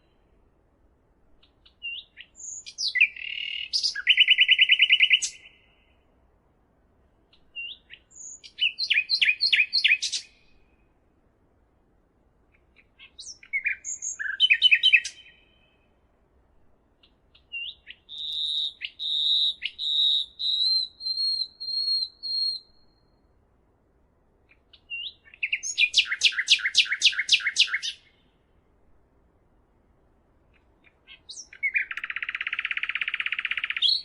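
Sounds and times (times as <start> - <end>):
songbird singing: 1.3 - 6.3, 7.2 - 11.0, 12.4 - 16.2, 16.9 - 23.5, 24.4 - 28.8, 30.4 - 34.0.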